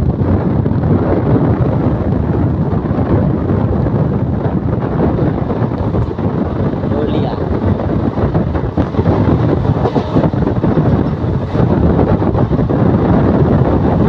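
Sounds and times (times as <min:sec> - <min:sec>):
train running at speed: 0:00.0 - 0:14.0
wind buffeting the microphone: 0:00.0 - 0:14.0.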